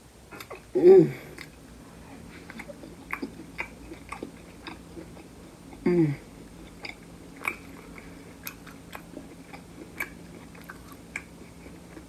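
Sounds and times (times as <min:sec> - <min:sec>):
person chewing with wet smacks: 0:00.3 - 0:12.0.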